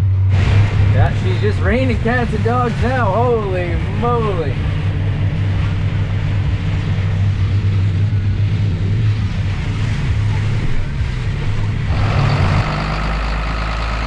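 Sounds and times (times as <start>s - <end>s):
heavy rain on cab: 0.0s - 14.0s
steady engine hum: 0.0s - 14.0s
tractor diesel engine droning: 0.0s - 14.0s.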